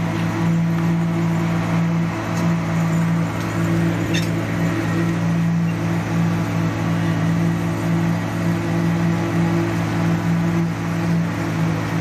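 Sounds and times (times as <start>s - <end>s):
paving machine engine drone: 0.0s - 12.0s.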